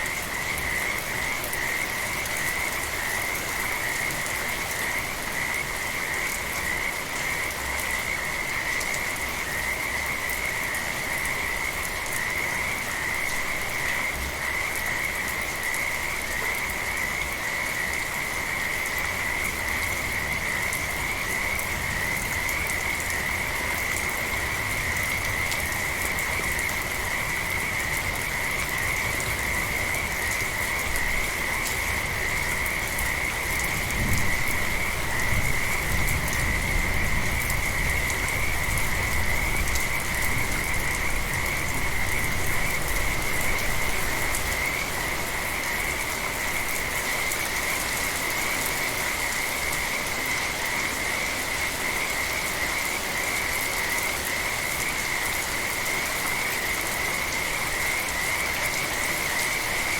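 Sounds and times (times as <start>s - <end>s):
frogs trilling: 0.1s - 59.9s.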